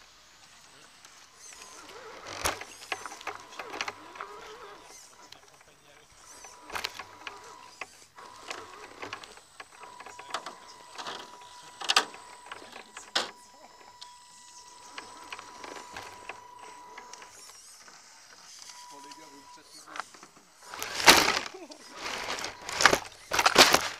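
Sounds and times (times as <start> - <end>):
electric motor whine: 0.0 - 23.9.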